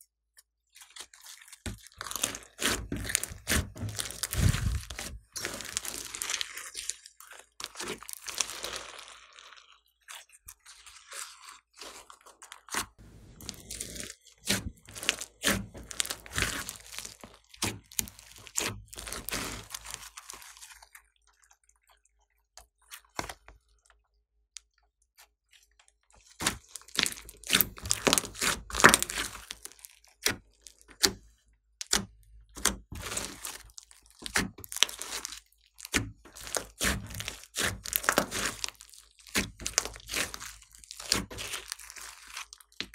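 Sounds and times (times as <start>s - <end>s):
slime squishing and crackling: 0.6s - 24.0s, 25.2s - 42.9s.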